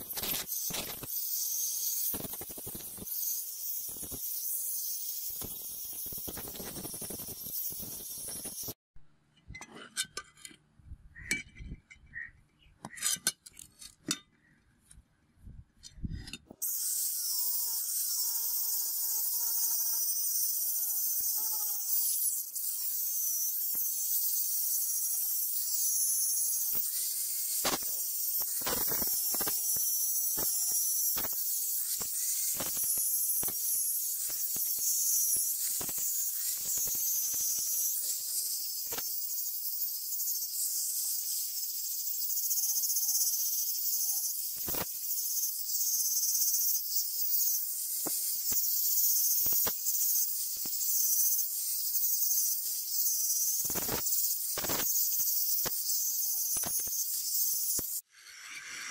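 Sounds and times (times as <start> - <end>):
angle grinder grinding steel: 0.0 - 8.8, 16.4 - 58.9.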